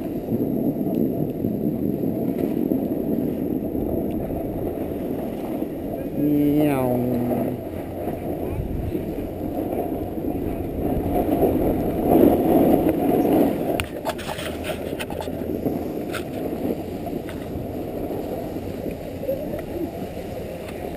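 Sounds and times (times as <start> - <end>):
skis sliding over packed snow: 0.0 - 20.9
wind on microphone: 0.0 - 20.9.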